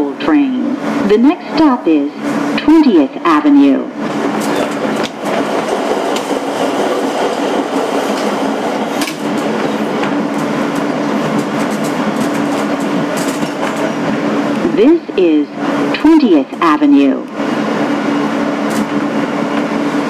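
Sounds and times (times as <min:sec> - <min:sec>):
subway wheels rumbling on rails: 0:00.0 - 0:20.0.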